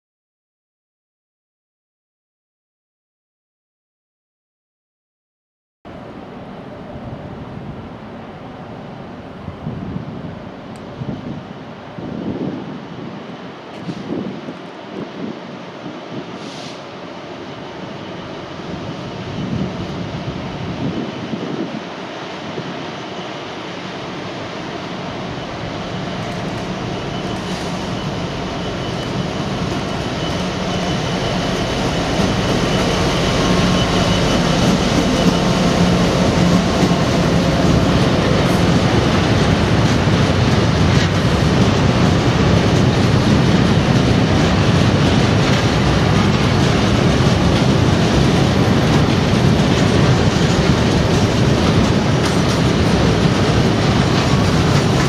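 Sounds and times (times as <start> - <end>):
diesel locomotive engine: 5.9 - 55.0
train wagons rumbling by: 5.9 - 55.0.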